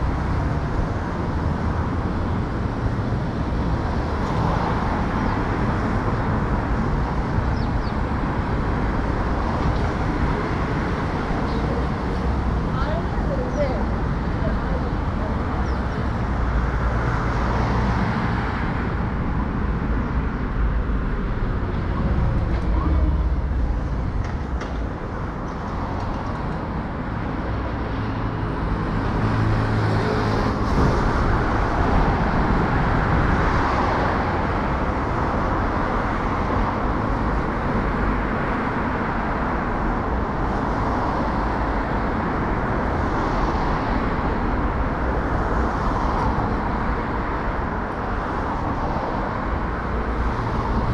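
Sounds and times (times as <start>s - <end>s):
cars passing: 0.0s - 50.9s.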